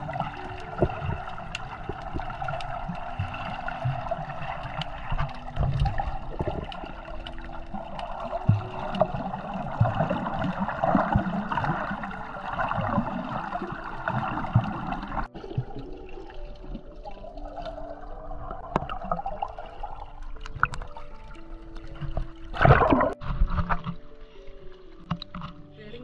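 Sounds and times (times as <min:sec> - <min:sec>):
underwater bubbling wash: 0:00.0 - 0:23.7.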